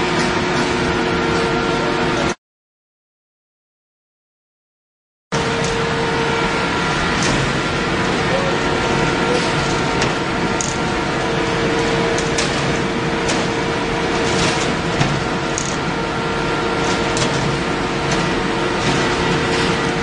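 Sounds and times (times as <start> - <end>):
hum of rolls and drives: 0.0 - 2.4, 5.4 - 20.0
machinery drone: 0.0 - 2.4, 5.3 - 20.0.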